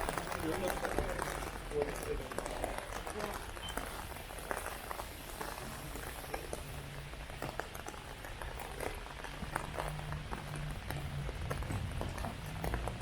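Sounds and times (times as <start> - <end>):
close raindrops splashing: 0.0 - 13.0
heavy rain falling: 0.0 - 13.0.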